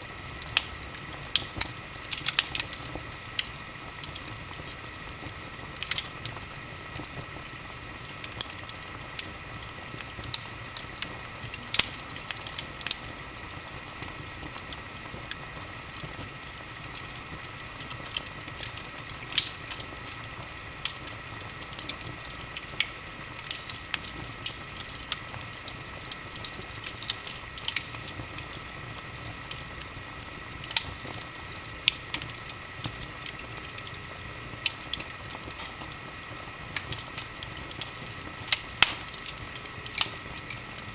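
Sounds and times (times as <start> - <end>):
fire crackling and popping: 0.0 - 40.9
fire hissing: 0.0 - 40.9.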